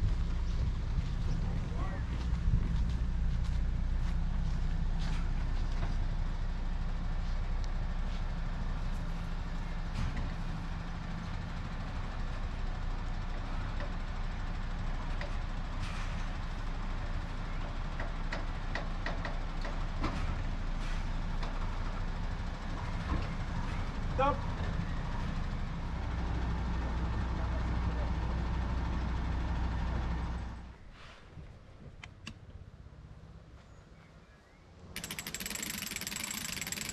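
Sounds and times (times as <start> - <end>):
truck engine running: 0.0 - 30.8.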